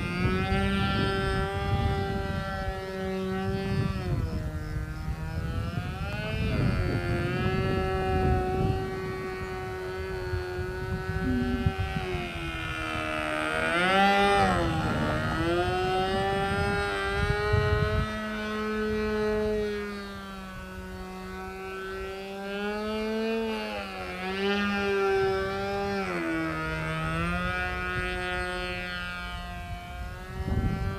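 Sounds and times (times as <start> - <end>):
model plane engine buzzing: 0.0 - 30.9.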